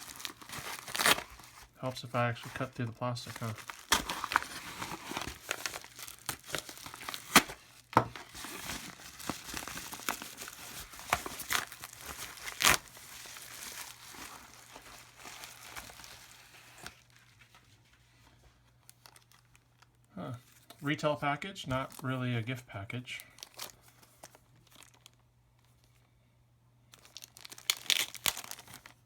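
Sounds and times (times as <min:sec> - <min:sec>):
plastic packaging crinkling: 0:00.0 - 0:17.6, 0:18.7 - 0:20.1, 0:23.1 - 0:26.0, 0:26.9 - 0:29.0.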